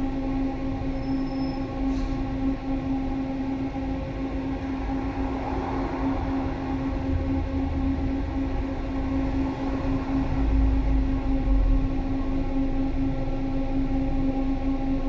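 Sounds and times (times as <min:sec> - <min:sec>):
tram electric hum: 0:00.0 - 0:15.0.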